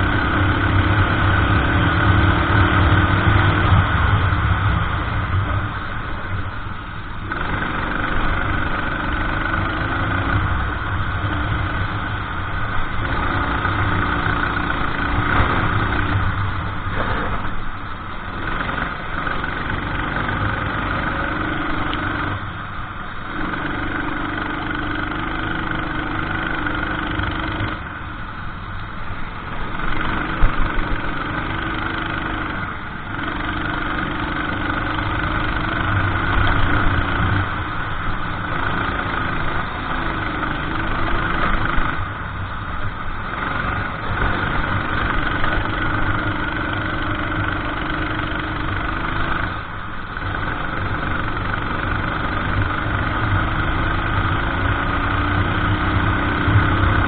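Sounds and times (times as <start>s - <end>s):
kart engine running: 0.0s - 57.0s.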